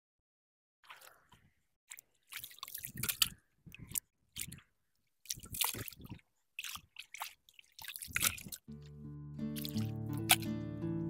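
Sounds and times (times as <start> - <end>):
hands splashing in muddy water: 0.8 - 10.7.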